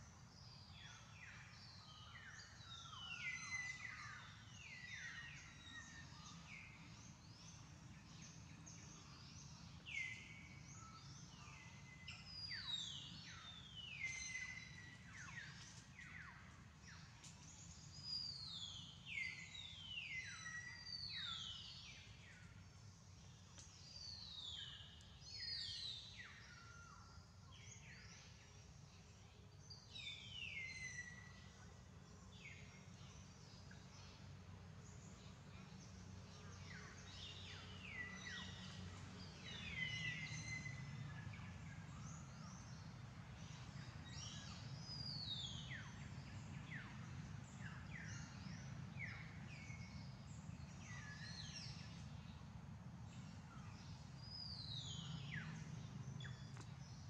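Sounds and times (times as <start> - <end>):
birds calling faintly: 0.0 - 57.0
steady low background hum: 0.0 - 57.0.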